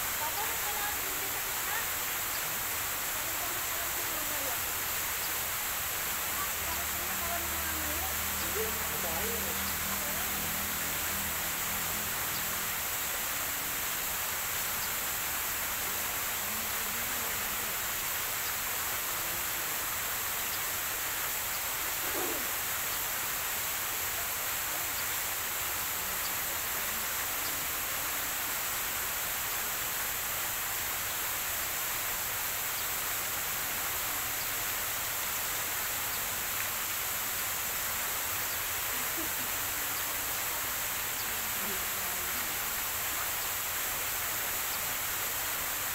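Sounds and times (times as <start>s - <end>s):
steady outdoor hiss: 0.0s - 45.9s.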